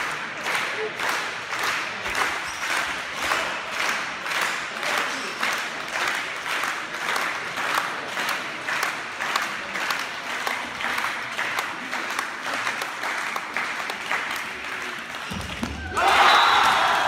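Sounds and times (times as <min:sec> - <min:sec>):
crowd clapping: 0:00.0 - 0:17.0.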